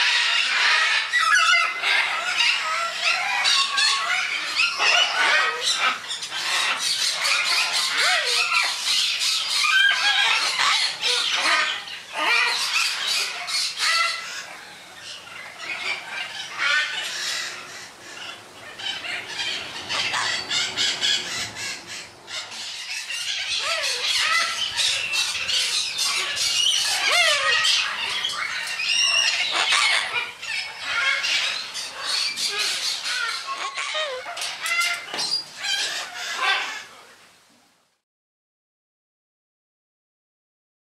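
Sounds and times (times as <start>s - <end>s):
cockatoos screeching: 0.0s - 36.9s.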